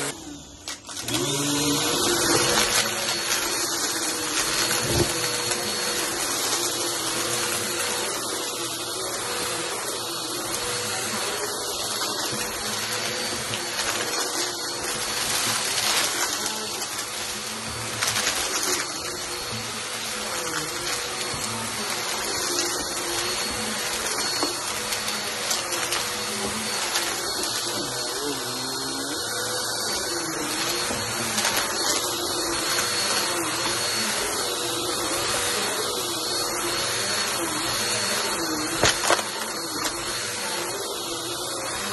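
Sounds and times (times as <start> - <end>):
vacuum cleaner motor whining: 0.0 - 41.9.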